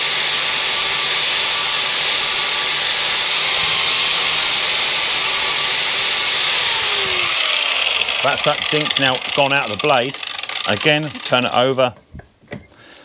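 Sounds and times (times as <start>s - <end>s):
angle grinder grinding steel: 0.0s - 11.9s.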